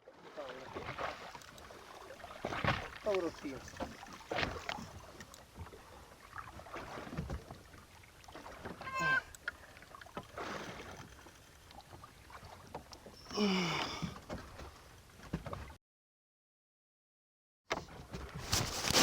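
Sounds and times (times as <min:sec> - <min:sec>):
water sloshing against hull: 0:00.0 - 0:15.8
wind: 0:00.0 - 0:15.8, 0:17.7 - 0:19.0.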